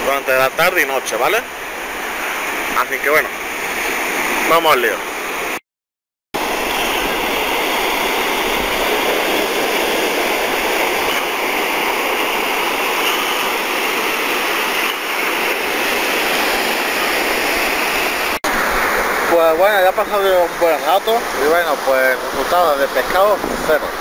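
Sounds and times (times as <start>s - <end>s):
surf breaking on beach: 0.0s - 5.6s, 6.4s - 24.0s.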